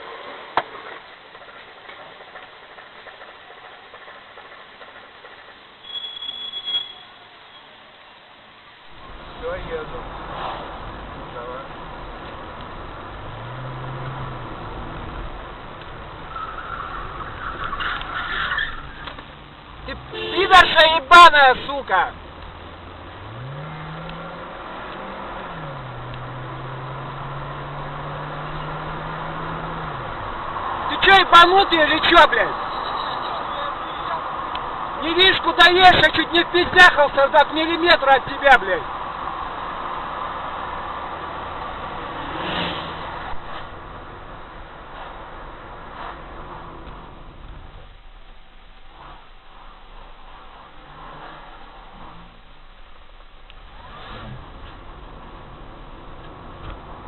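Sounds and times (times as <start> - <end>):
car engine rumble: 0.0 - 5.8, 7.8 - 57.0.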